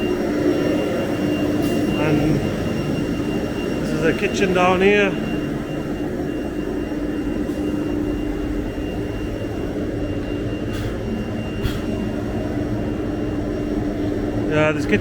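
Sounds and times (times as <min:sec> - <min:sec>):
workshop machinery drone: 0:00.0 - 0:15.0.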